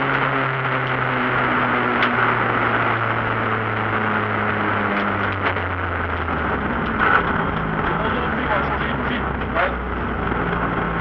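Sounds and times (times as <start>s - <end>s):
car engine running: 0.0s - 11.0s
road and wind noise: 0.0s - 11.0s.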